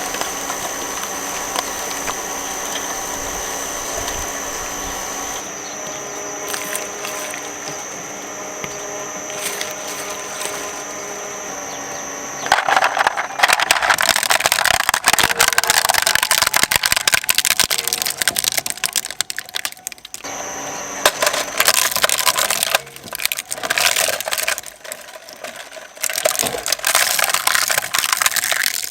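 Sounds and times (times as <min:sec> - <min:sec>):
crackling crunch of shredding: 0:00.0 - 0:28.9
shredder motor humming: 0:00.0 - 0:28.9.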